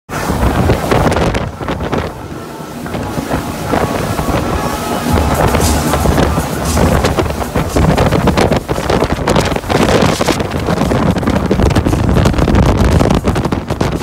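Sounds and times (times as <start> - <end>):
water rushing off hull: 0.1 - 14.0
wind buffeting microphone: 0.1 - 14.0.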